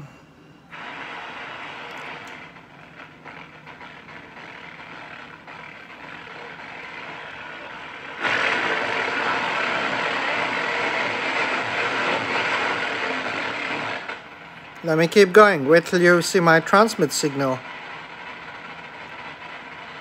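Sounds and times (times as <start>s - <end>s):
radio static hiss: 0.7s - 20.0s.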